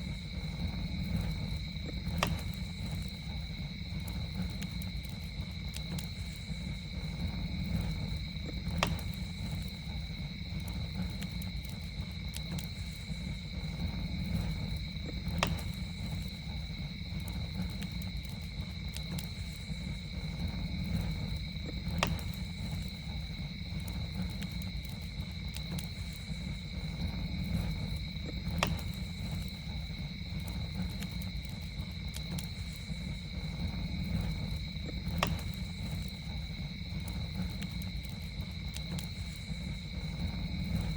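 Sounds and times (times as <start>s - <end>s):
campfire rumble: 0.0s - 40.9s
insect trill: 0.0s - 40.9s
wood popping in fire: 0.0s - 40.9s.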